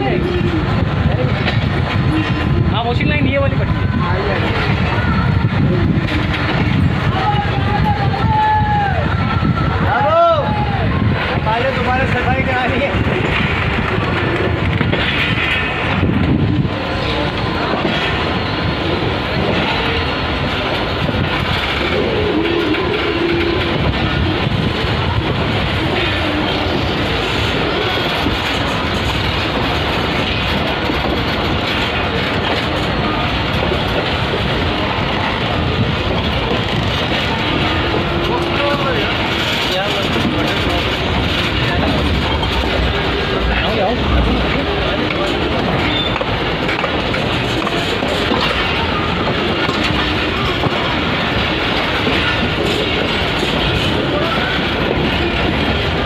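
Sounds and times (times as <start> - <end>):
train running on rails: 0.0 - 56.0.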